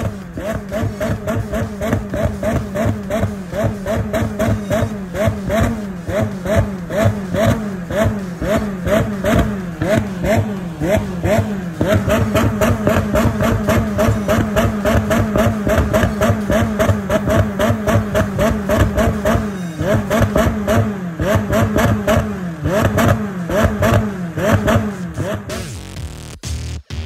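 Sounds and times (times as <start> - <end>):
car engine revving hard: 0.0 - 25.8.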